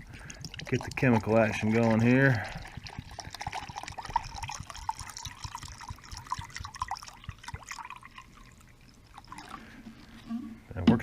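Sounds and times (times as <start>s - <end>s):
liquid dripping into container: 0.0s - 10.4s.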